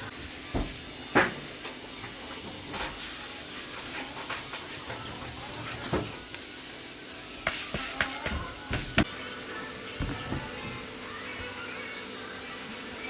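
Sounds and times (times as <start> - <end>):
birds chirping: 1.6 - 12.6.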